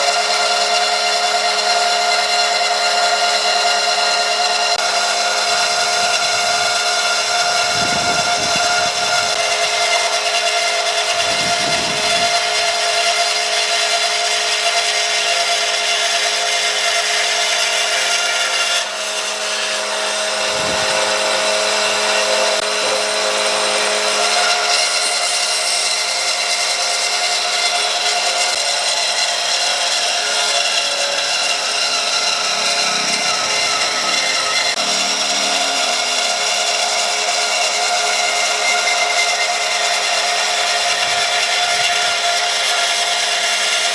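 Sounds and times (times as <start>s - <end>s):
electric power tool whine: 0.0s - 43.9s.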